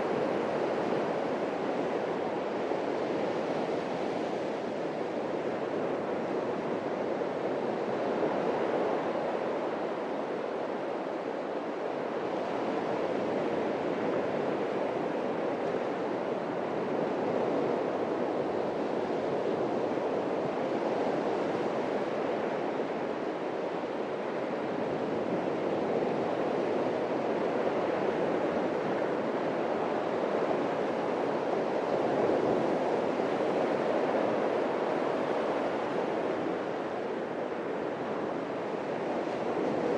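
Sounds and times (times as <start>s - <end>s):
surf washing on a beach: 0.0s - 39.9s.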